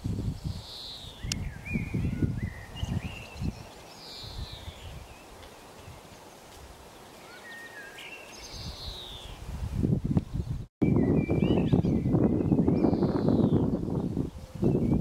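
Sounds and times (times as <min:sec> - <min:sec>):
birdsong: 0:00.4 - 0:09.5, 0:10.2 - 0:15.0.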